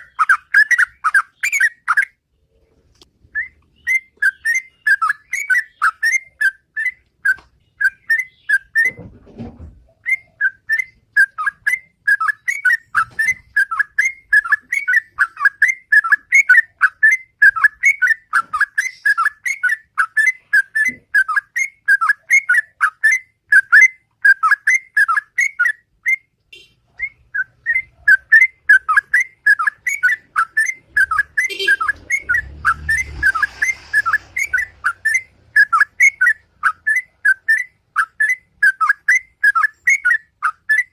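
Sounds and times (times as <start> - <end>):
bird singing rapid whistled notes: 0.0 - 2.2, 3.3 - 9.1, 9.9 - 26.3, 26.9 - 40.9.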